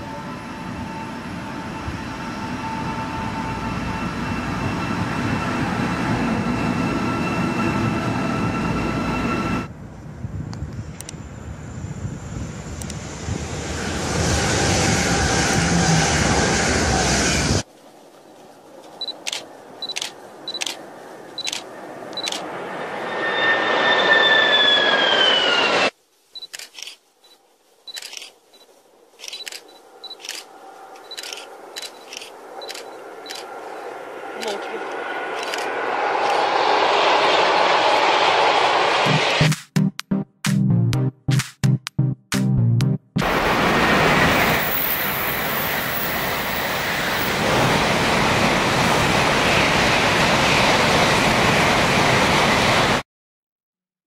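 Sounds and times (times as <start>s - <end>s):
electric train rushing past: 0.0s - 17.7s, 19.0s - 26.0s, 29.8s - 39.7s, 43.2s - 53.0s
faint distant train: 0.0s - 39.4s, 43.2s - 53.0s.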